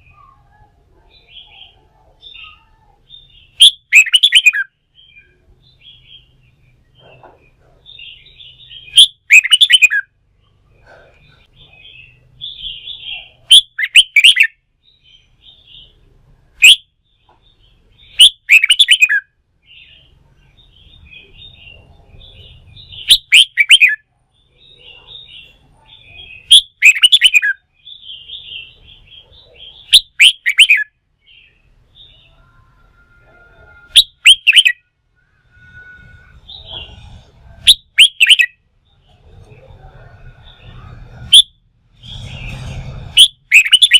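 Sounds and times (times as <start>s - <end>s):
bulbul singing bright phrases: 0.0s - 7.0s, 7.8s - 10.6s, 11.2s - 42.6s, 43.2s - 43.9s.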